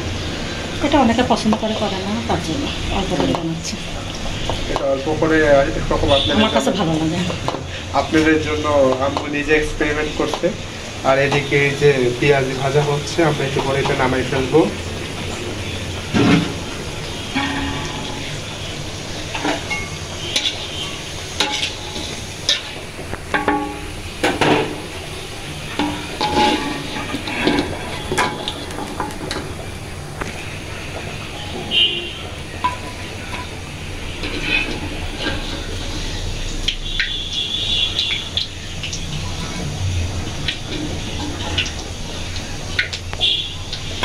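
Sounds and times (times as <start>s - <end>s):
fritters sizzling in hot oil: 0.0s - 44.0s
skimmer clinking and scraping pan: 4.2s - 29.8s, 30.4s - 44.0s.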